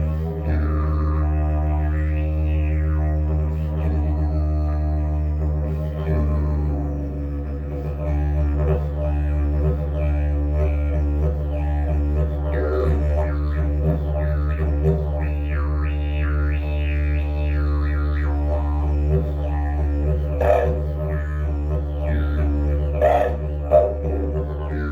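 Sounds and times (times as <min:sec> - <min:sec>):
didgeridoo low drone: 0:00.0 - 0:24.9.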